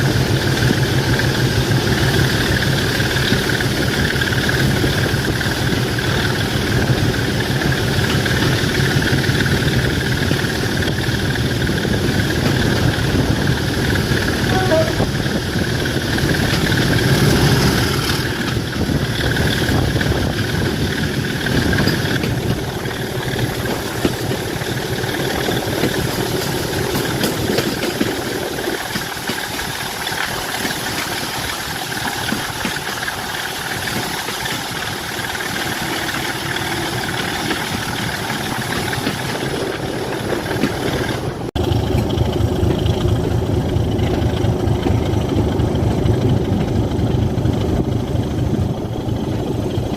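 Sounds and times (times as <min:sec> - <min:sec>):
diesel locomotive engine idling: 0:00.0 - 0:49.9.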